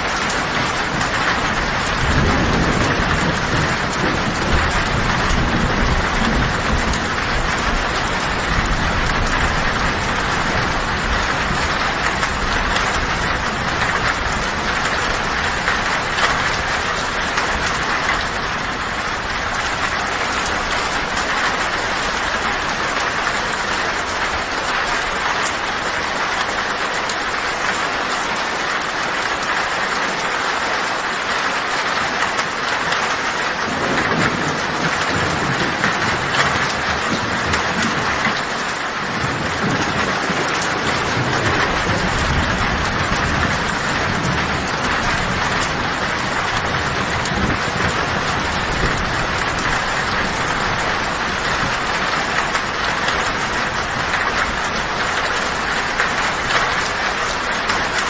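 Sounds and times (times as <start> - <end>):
heavy rain on a tin roof: 0.0 - 58.0
low thunder rumble: 0.1 - 24.5, 33.6 - 57.4.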